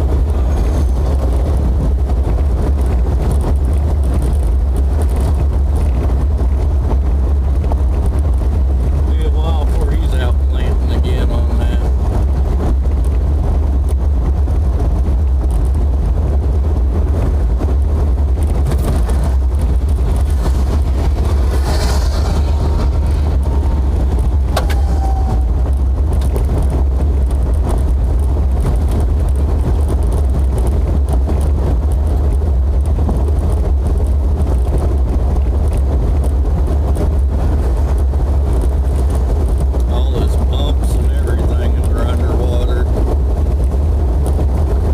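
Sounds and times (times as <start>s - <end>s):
car engine and road noise: 0.0s - 44.9s.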